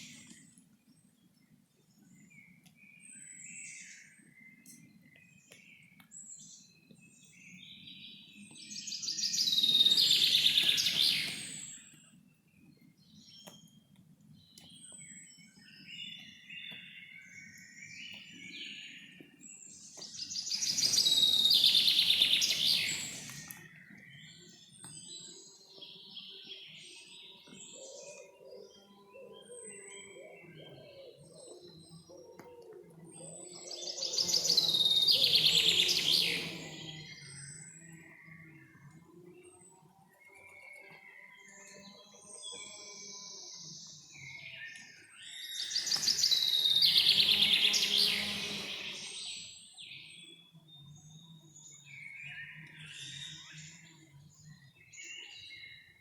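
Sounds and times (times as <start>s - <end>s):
birds chirping and singing: 6.3s - 12.0s, 14.4s - 55.9s.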